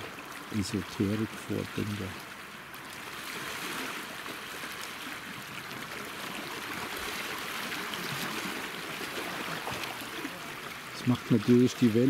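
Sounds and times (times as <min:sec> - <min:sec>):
waves lapping on rocks: 0:00.0 - 0:12.0.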